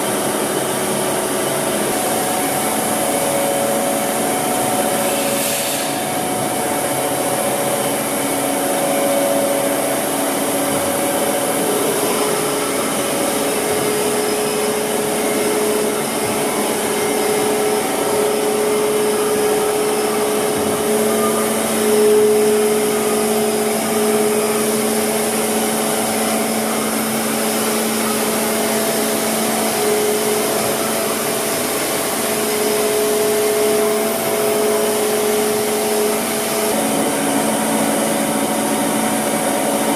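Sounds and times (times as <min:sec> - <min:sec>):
low machine tone: 0:00.0 - 0:39.9
workshop machinery hum: 0:00.0 - 0:39.9.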